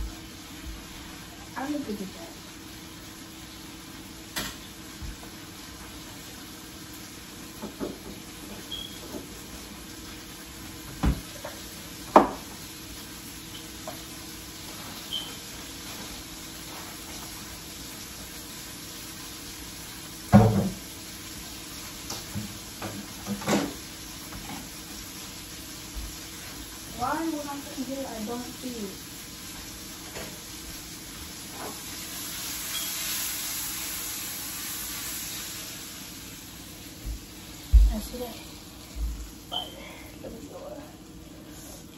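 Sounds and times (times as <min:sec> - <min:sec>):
pan sizzling: 0:00.0 - 0:41.9.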